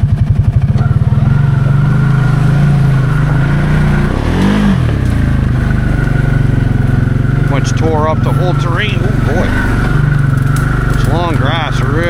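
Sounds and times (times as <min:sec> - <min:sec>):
atv engine revving: 0:00.0 - 0:12.0
high whine: 0:00.0 - 0:12.0.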